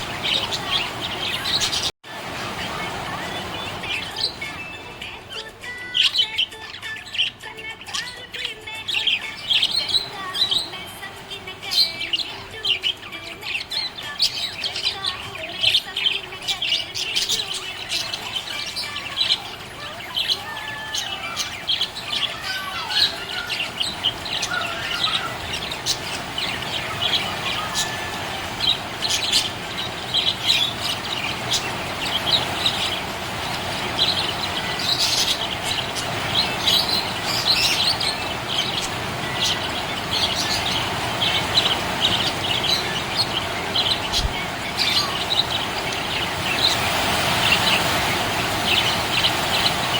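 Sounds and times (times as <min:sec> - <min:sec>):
budgerigar chirping and warbling: 0:00.0 - 0:01.9, 0:02.7 - 0:11.0, 0:11.6 - 0:49.9.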